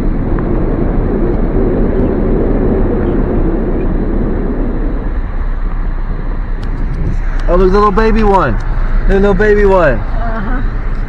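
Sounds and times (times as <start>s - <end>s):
road and wind noise inside car: 0.0s - 11.0s.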